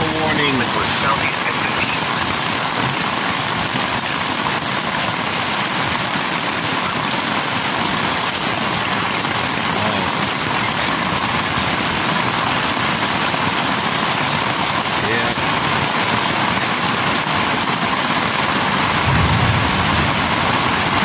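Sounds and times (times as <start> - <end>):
torrential rain pouring: 0.0 - 21.0.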